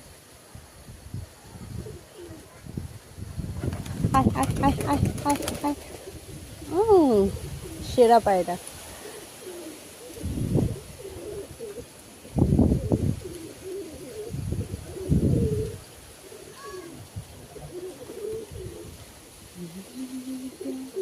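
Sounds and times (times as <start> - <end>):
pigeons cooing: 4.1 - 21.0.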